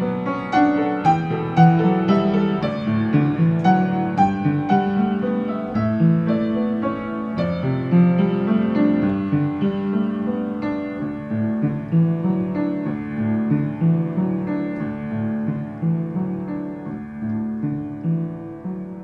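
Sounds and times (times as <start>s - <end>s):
piano melody with bass chords: 0.0s - 19.0s.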